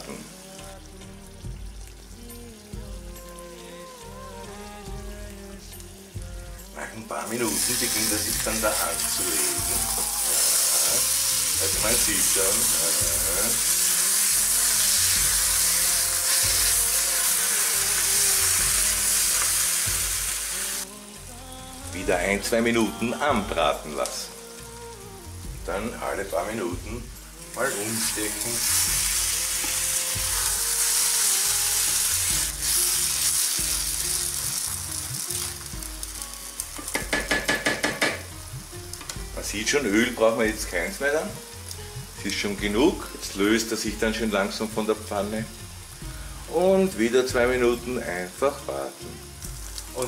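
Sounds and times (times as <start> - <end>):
background music: 0.0 - 50.0
semolina sizzling in oil: 0.0 - 50.0.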